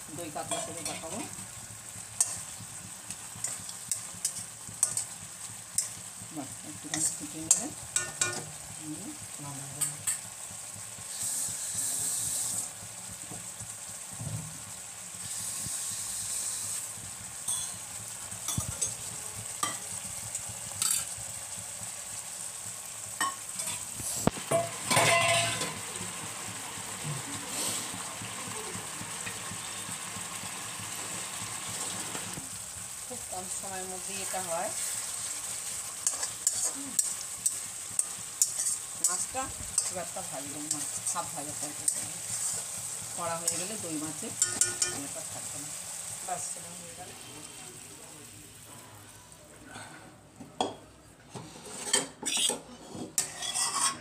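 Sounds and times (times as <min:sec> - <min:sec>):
fish sizzling and bubbling: 0:00.0 - 0:54.0.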